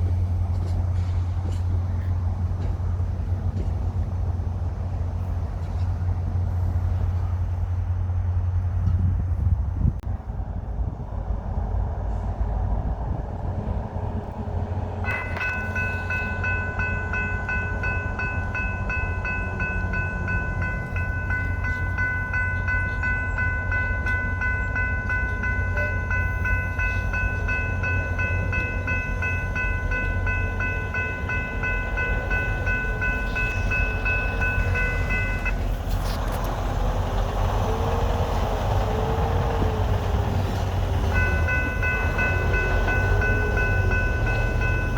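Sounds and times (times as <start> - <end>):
diesel locomotive engine rumble: 0.0 - 44.9.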